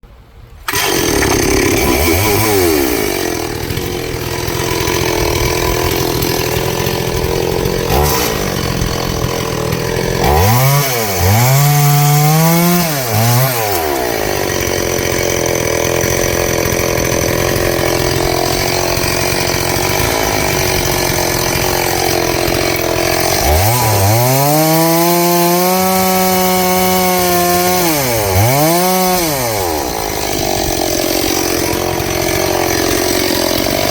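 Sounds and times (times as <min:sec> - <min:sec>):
chainsaw cutting wood: 0:00.6 - 0:33.9.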